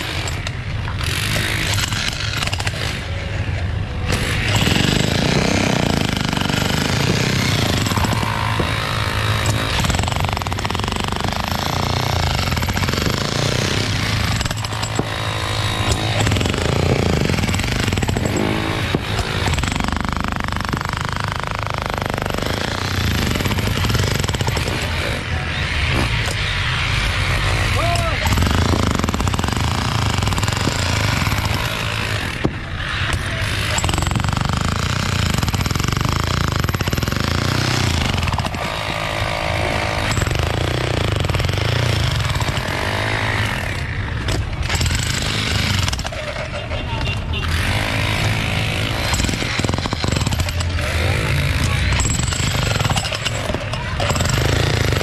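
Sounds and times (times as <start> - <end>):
demolition hammer breaking concrete: 0.0 - 3.0, 4.1 - 25.3, 27.6 - 55.0.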